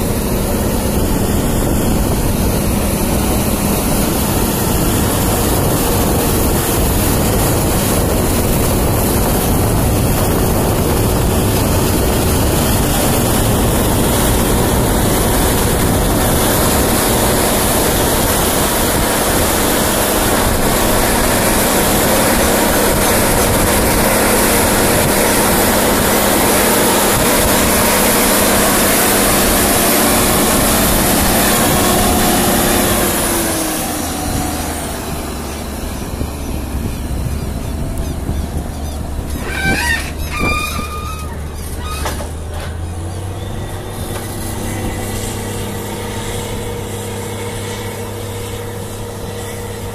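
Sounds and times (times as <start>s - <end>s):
tractor diesel engine droning: 0.0s - 49.9s.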